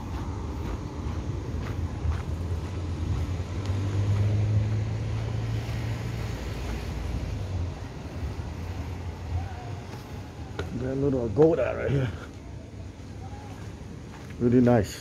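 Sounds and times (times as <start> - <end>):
low engine hum: 0.0 - 14.4
steady low rumble: 0.0 - 15.0.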